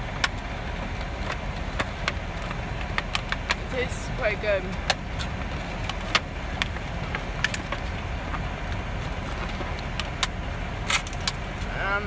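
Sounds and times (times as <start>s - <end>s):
low rumble of car: 0.0s - 12.0s.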